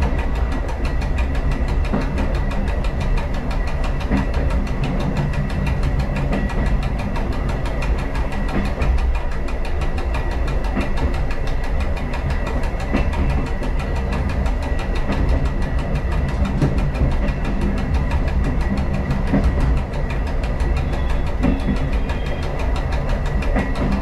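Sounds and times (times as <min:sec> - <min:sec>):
train diesel engine running: 0:00.0 - 0:24.0
train running on rails: 0:00.0 - 0:24.0.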